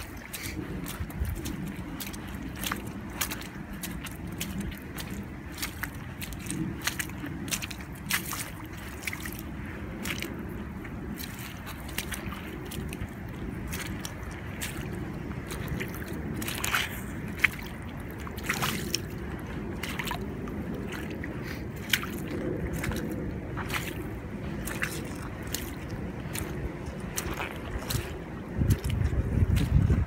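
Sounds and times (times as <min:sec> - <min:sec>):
footsteps squelching in mud: 0:00.0 - 0:30.0
low rumble: 0:00.0 - 0:30.0.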